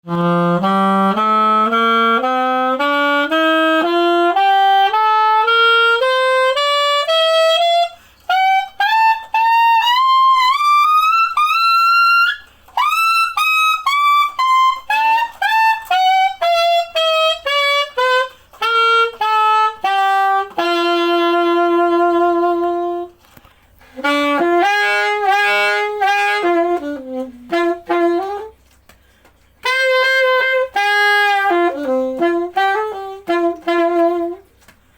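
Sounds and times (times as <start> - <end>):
alto saxophone playing: 0.0 - 34.9.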